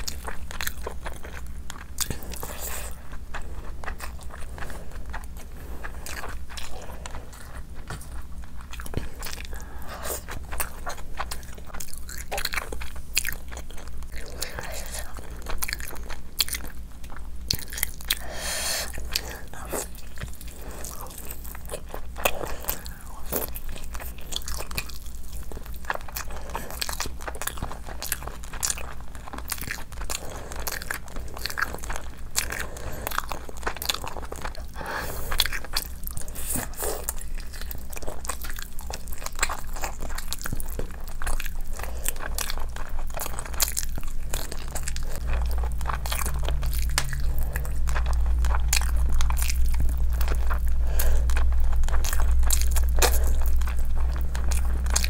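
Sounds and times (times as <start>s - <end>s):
low steady hum: 0.0s - 55.0s
person chewing with mouth clicks: 0.0s - 55.0s.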